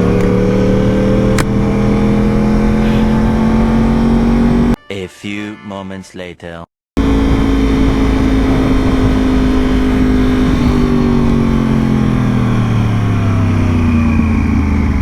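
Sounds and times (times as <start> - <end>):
motorcycle engine under way: 0.0 - 4.8, 7.0 - 15.0.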